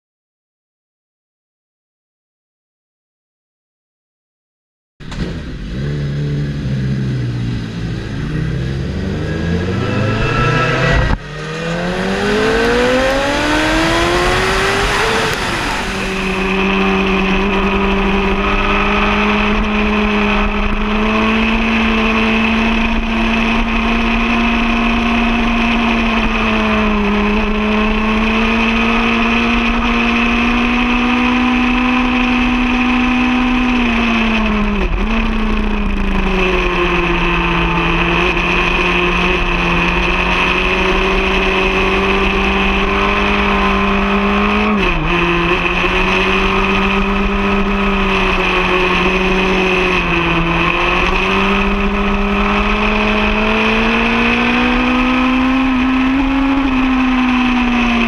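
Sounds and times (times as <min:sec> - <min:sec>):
motorcycle engine revving: 0:05.0 - 0:58.0.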